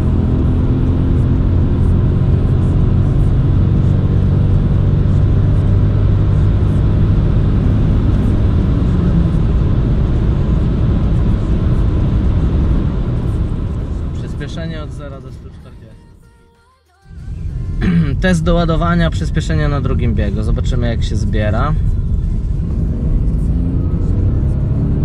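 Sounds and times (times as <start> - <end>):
car engine accelerating: 0.0 - 16.0, 17.1 - 25.0
road noise: 0.0 - 16.3, 17.1 - 25.0.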